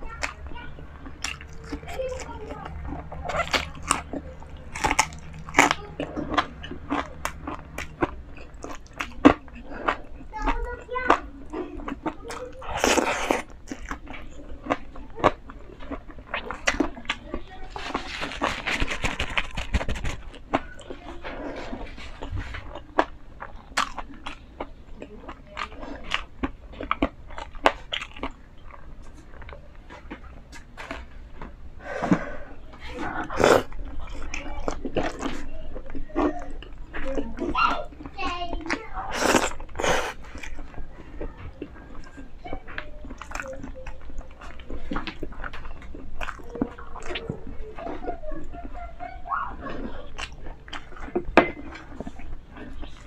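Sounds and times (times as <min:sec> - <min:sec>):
chewing crispy chicken crunches: 0:00.0 - 0:53.0.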